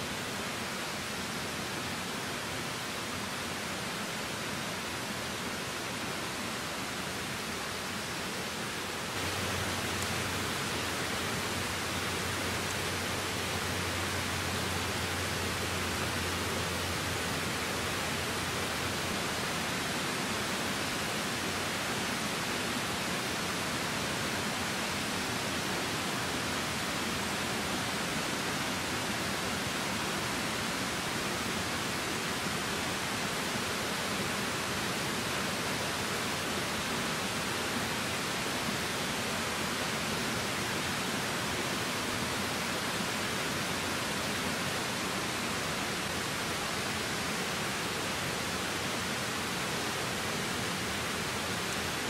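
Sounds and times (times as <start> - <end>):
creek water flowing: 0.0 - 52.0.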